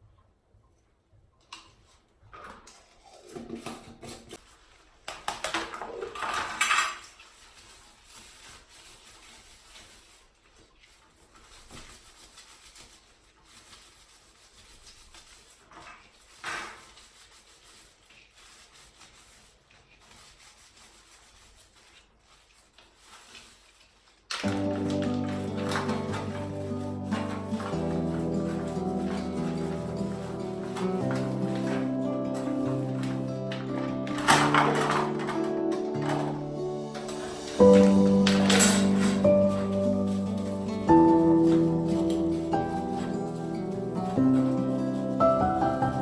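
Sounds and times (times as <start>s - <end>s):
household objects rubbing and rustling: 1.6s - 46.0s.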